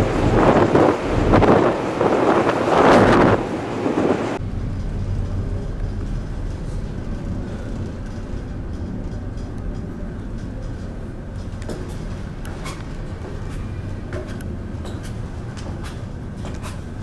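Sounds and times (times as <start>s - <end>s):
ship machinery drone: 0.0s - 17.0s
wind buffeting microphone: 0.0s - 17.0s.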